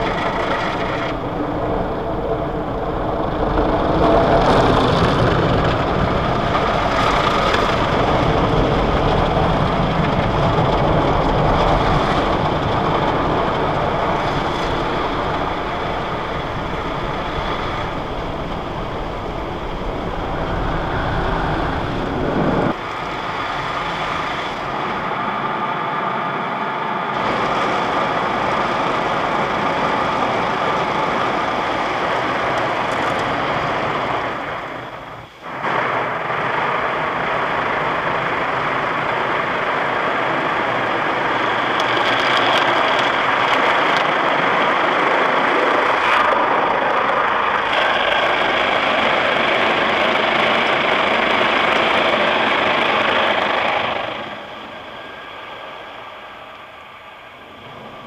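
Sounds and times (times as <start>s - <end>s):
car wash water rushing: 0.0s - 58.0s.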